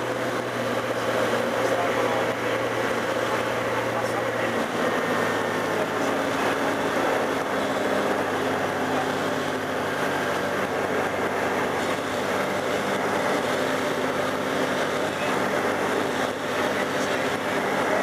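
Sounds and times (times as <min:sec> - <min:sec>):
aircraft engine and propeller droning: 0:00.0 - 0:18.0.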